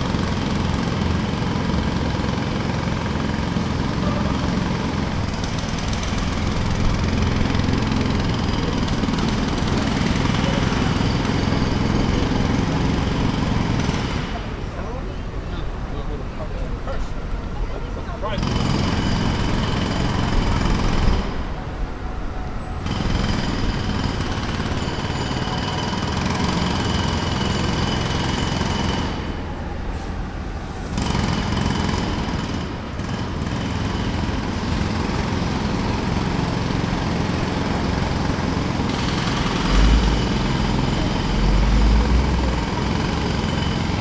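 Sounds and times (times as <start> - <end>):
jackhammer hammering: 0.0 - 15.0, 18.3 - 21.6, 22.8 - 29.5, 30.9 - 44.0.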